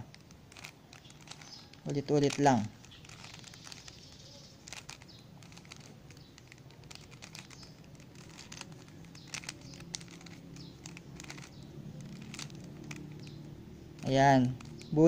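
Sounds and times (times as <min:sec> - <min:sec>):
puzzle cube clicking and rattling: 0:00.0 - 0:15.0.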